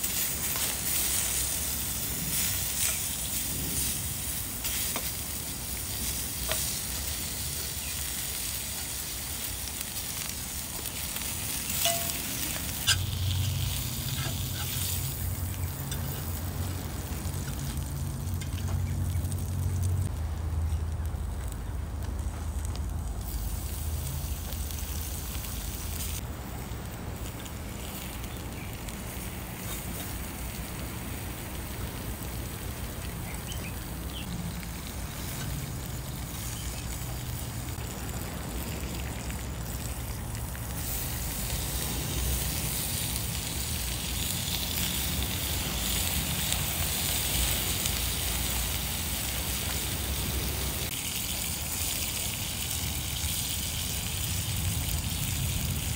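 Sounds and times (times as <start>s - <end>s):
fire hissing and crackling: 0.0s - 55.9s
wood fire burning in stove: 0.0s - 55.9s.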